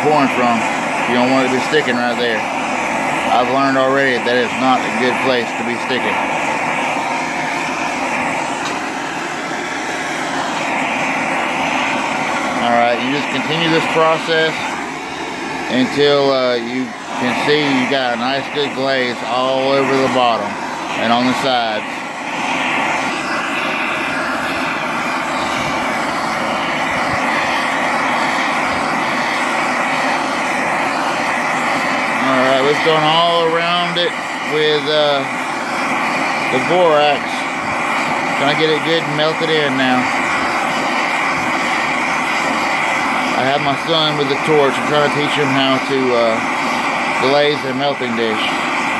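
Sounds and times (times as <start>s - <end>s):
gas torch flame hissing: 0.0s - 48.9s.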